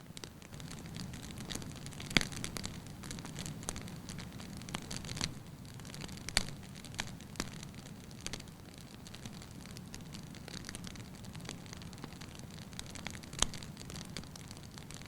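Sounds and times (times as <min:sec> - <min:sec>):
wood logs crackling and popping: 0:00.0 - 0:15.0.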